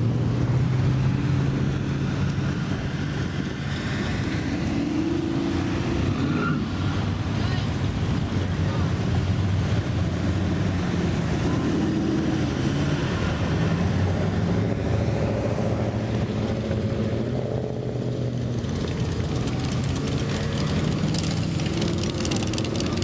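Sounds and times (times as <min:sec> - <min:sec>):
car engines passing slowly: 0:00.0 - 0:23.0.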